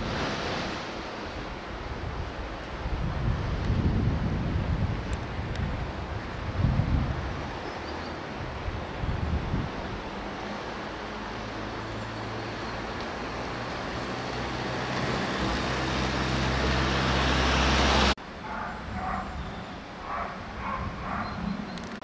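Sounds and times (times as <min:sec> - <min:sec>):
quiet outdoor background: 0:00.0 - 0:22.0
vehicle engine and road noise: 0:00.0 - 0:22.0.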